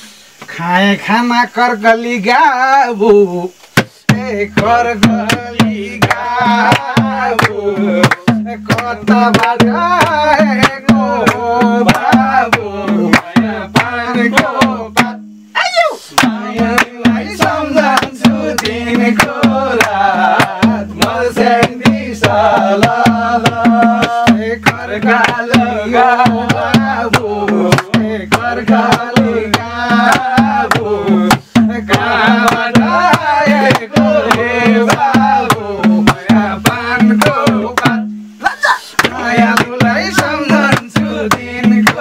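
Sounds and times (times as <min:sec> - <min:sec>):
voices singing folk song: 0:00.0 - 0:42.0
hand drum beating: 0:03.8 - 0:15.4, 0:16.2 - 0:38.2, 0:39.0 - 0:42.0
hand claps: 0:04.6 - 0:15.2, 0:16.2 - 0:38.0, 0:39.0 - 0:42.0.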